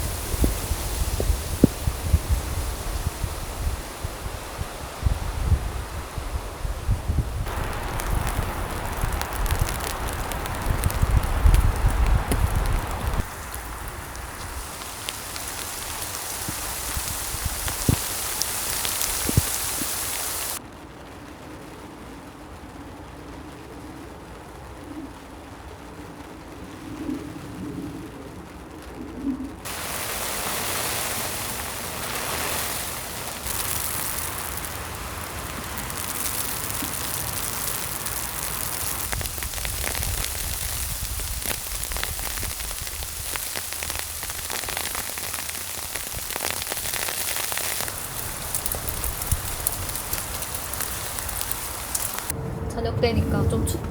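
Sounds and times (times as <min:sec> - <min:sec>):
rain pattering on a tent: 0:00.0 - 0:52.4.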